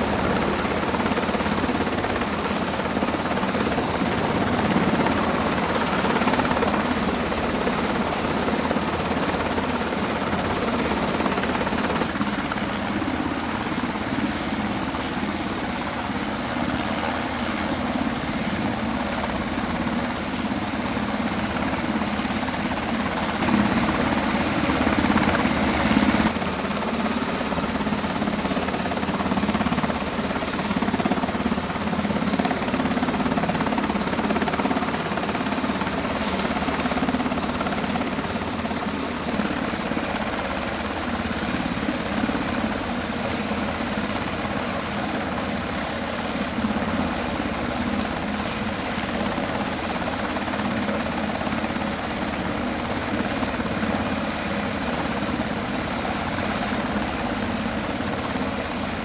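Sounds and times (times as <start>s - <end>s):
helicopter running: 0.0s - 59.0s.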